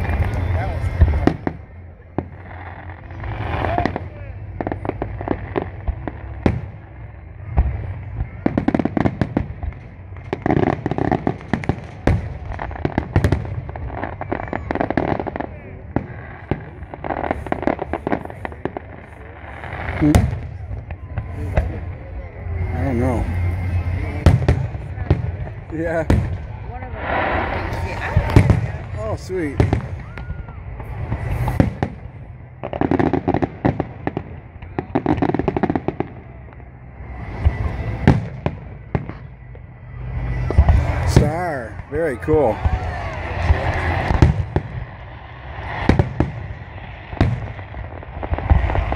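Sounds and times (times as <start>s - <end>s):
fireworks bursting with bangs: 0.0s - 48.9s.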